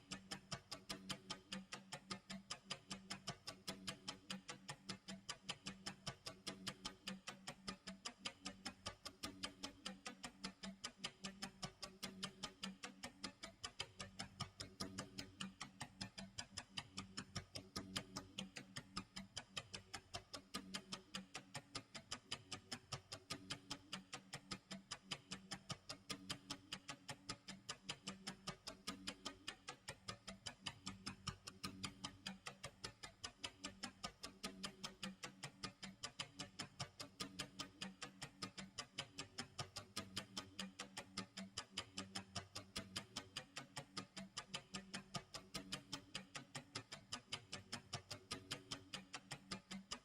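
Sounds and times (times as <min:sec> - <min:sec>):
clock ticking: 0:00.0 - 0:50.0.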